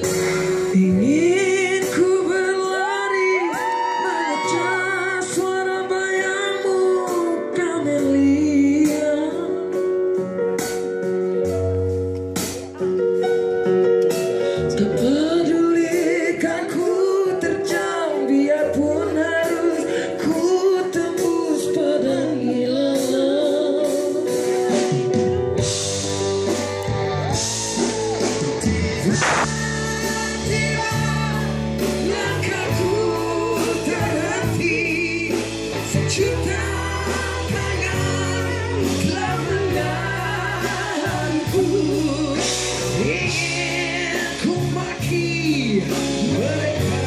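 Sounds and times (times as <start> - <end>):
two people singing pop song: 0.0 - 9.9, 14.6 - 25.0, 28.4 - 47.0
live band playing: 0.0 - 47.0.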